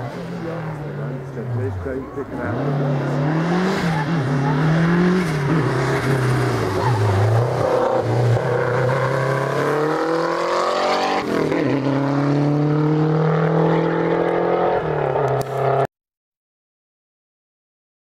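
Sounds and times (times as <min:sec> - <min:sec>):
rally car accelerating hard: 0:00.1 - 0:15.9.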